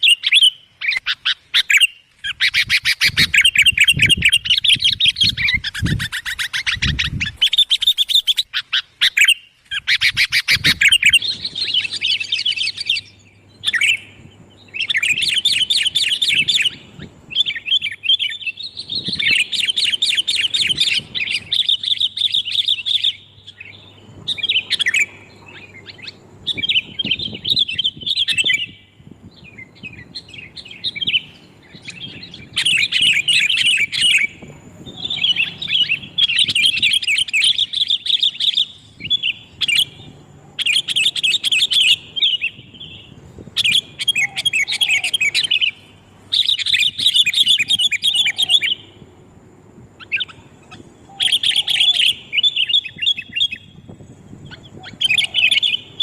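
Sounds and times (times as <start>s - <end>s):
bulbuls chattering and singing: 0.0s - 28.7s, 29.4s - 49.0s, 50.0s - 56.0s.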